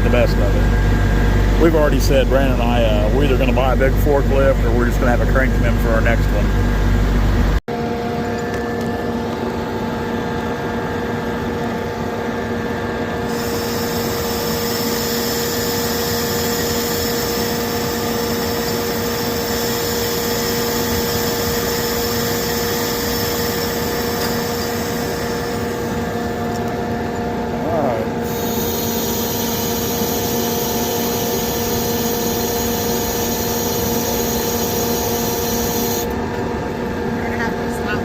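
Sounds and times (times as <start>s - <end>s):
hydraulic pump whine: 0.0s - 38.0s.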